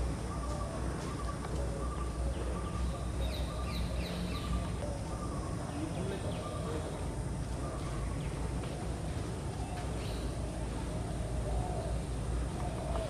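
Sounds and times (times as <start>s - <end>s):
birds chirping: 0.0s - 13.0s
low steady rumble: 0.0s - 13.0s.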